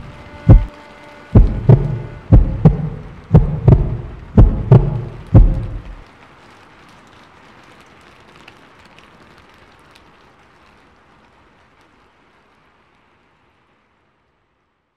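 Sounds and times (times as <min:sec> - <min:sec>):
raindrops tapping: 0:00.0 - 0:14.9
steady rain falling: 0:00.0 - 0:14.9.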